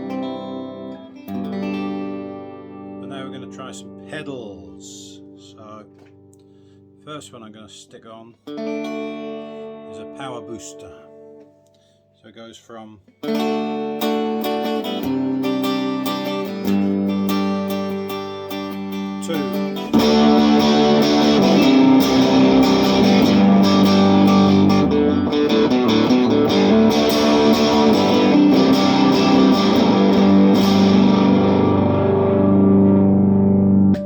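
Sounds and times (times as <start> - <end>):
electric guitar playing: 0.0 - 7.4, 8.4 - 11.8, 13.1 - 34.0.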